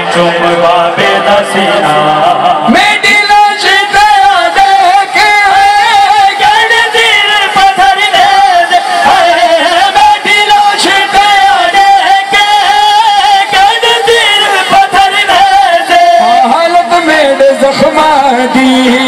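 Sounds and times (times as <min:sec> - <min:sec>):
man chanting into a microphone: 0:00.0 - 0:19.0.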